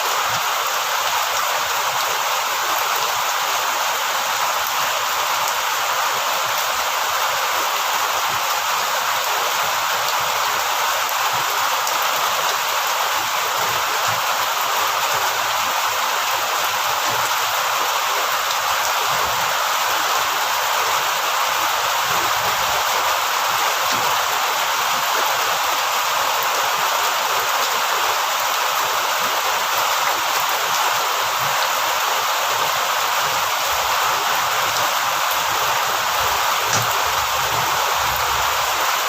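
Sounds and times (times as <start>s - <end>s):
heavy rainfall: 0.0s - 39.0s.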